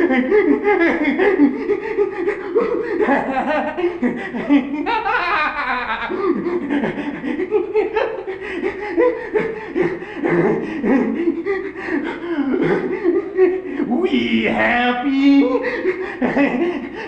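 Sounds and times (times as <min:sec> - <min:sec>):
people laughing: 0:00.0 - 0:17.0.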